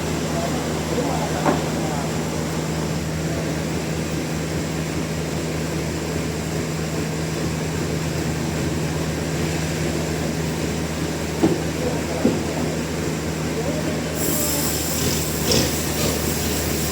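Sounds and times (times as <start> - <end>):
sawmill machinery humming: 0.0 - 16.9.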